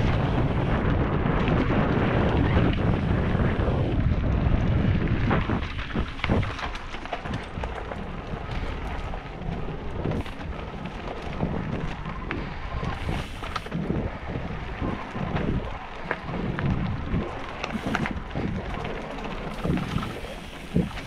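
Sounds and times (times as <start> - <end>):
bike clicking and rattling: 0.0 - 21.0
bike tyres on leaves and dirt: 0.0 - 21.0
wind buffeting microphone: 0.0 - 21.0.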